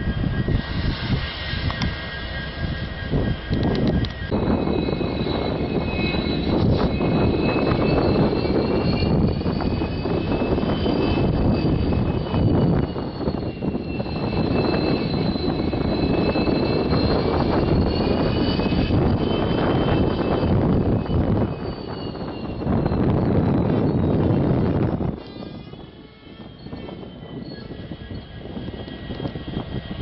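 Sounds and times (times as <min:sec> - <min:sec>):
diesel locomotive rumble: 0:00.0 - 0:30.0
high whine: 0:00.0 - 0:30.0.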